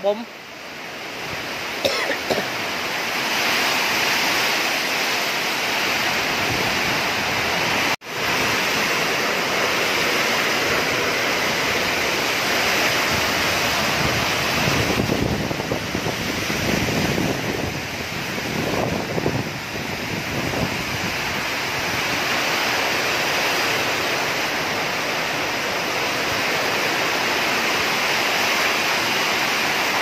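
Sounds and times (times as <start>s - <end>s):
heavy rain pouring: 0.0s - 30.0s
wind gusts buffeting microphone: 2.5s - 30.0s.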